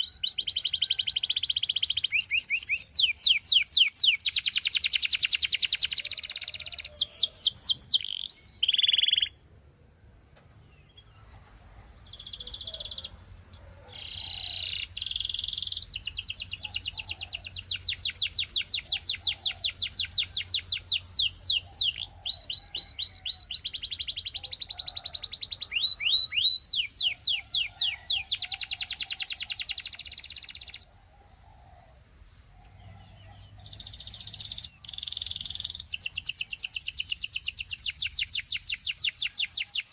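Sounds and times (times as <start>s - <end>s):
canary singing trills: 0.0s - 9.4s, 10.7s - 31.0s, 32.5s - 39.9s.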